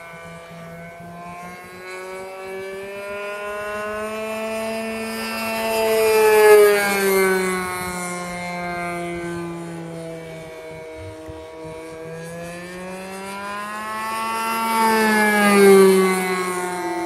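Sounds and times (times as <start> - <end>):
model plane propeller droning: 0.0 - 17.0.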